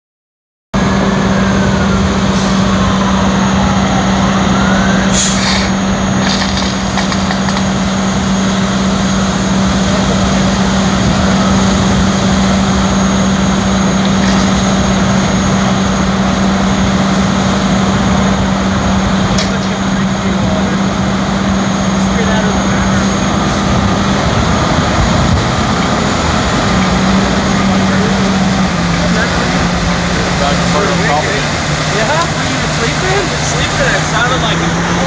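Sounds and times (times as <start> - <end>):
large engine humming: 0.8 - 35.0.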